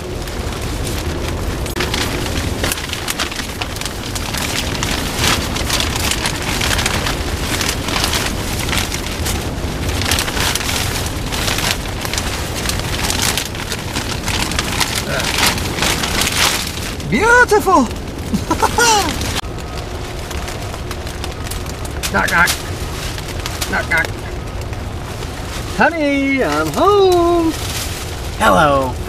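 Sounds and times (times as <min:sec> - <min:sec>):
plastic sheeting crinkling: 0:00.0 - 0:29.0
rain pattering on plastic: 0:00.0 - 0:29.0.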